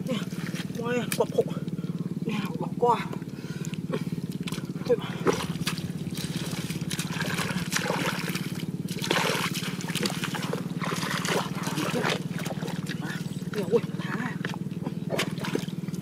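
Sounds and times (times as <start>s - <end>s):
hands sloshing through wet mud: 0.0s - 2.3s, 3.0s - 16.0s
steady low hum: 0.0s - 16.0s.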